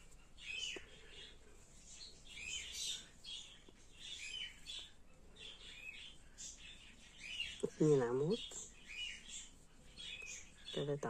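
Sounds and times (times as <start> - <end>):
faint small birds chirping: 0.0 - 11.0.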